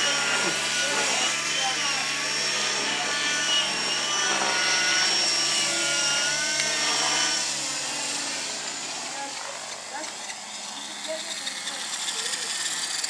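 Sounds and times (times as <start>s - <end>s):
model helicopters whining: 0.0s - 13.0s.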